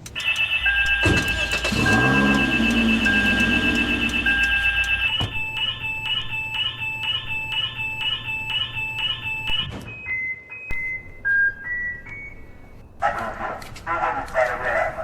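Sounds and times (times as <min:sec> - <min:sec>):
car alarm siren: 0:00.1 - 0:13.0.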